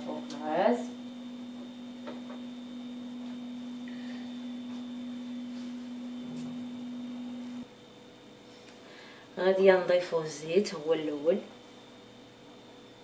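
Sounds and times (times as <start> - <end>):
faint high whine: 0.0 - 13.0
steady low hum: 0.0 - 13.0.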